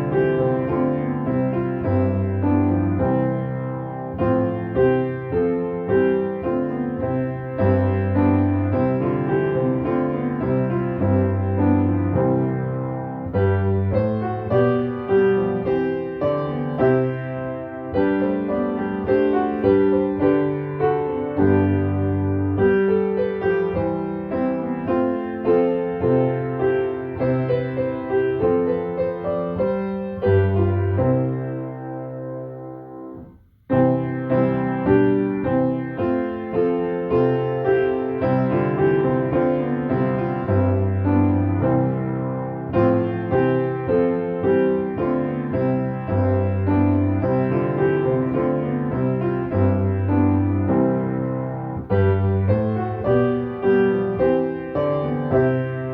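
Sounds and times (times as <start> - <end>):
slow gentle piano piece: 0.0 - 55.9.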